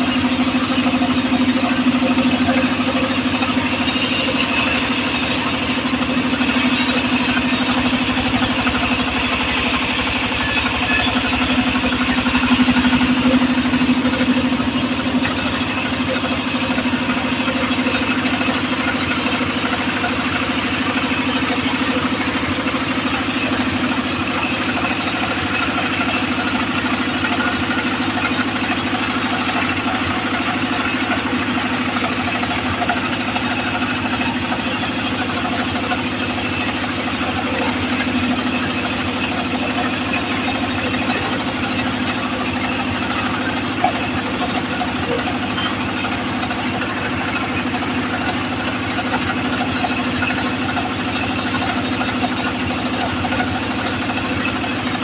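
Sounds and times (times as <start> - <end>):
circular saw running: 0.0 - 55.0.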